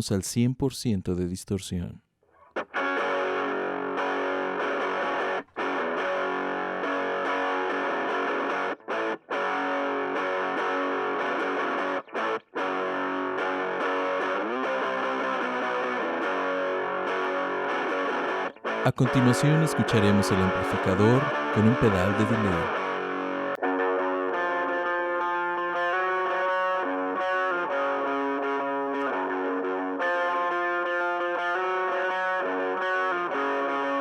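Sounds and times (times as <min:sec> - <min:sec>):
distorted electric guitar: 0:02.5 - 0:34.0.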